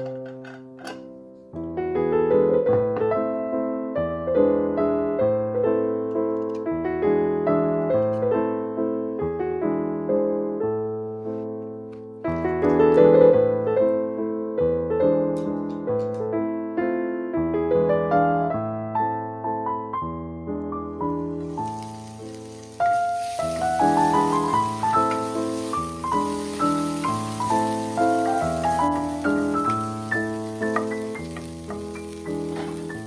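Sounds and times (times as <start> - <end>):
soft piano melody: 0.0 - 33.0.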